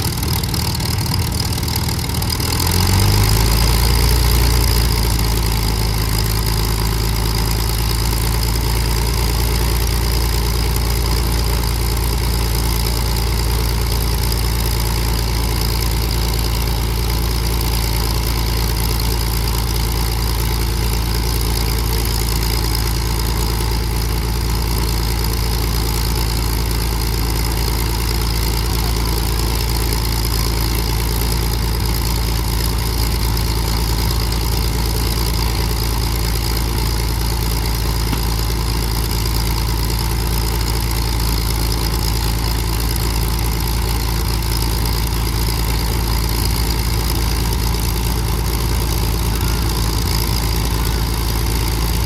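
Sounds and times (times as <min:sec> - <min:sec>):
aircraft engines idling: 0:00.0 - 0:52.0.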